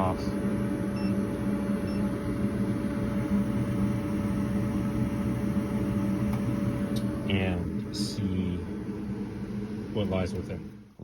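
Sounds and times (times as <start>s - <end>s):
furnace motor humming: 0.0s - 11.0s.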